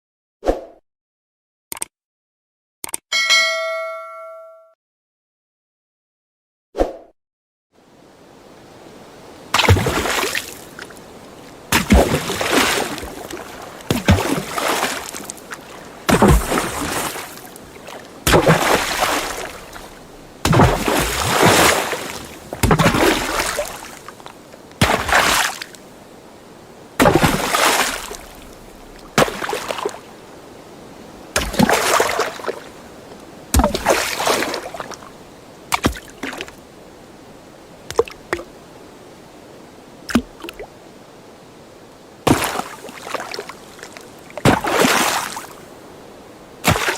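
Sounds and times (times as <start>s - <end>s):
water splashes and sloshing: 7.9s - 46.9s.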